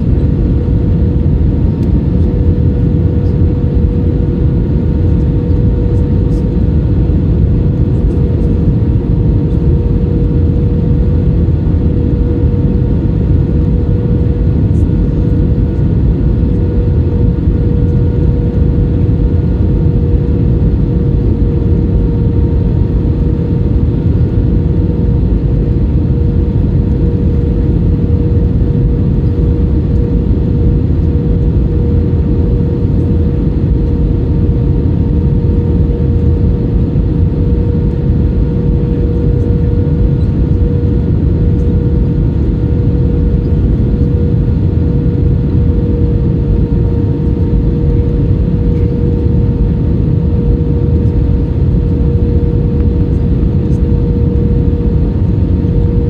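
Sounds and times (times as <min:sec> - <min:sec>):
constant hum: 0:00.0 - 0:56.0
jet engines and rushing airflow: 0:00.0 - 0:56.0.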